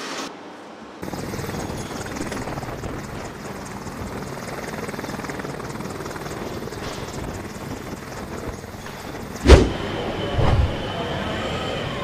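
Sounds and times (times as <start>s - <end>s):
helicopter rotor chopping: 1.0s - 12.0s.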